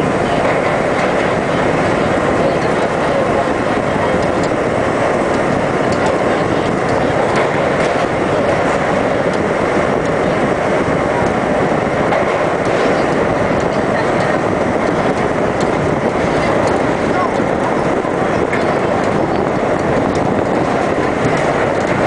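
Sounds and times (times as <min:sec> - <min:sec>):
steel wheels on rail: 0:00.0 - 0:22.0
clicks over rail joints: 0:00.4 - 0:22.0.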